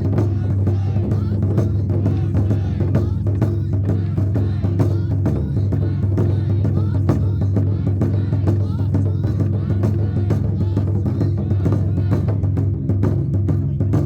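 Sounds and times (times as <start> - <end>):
taiko drums beating fast: 0.0 - 14.0.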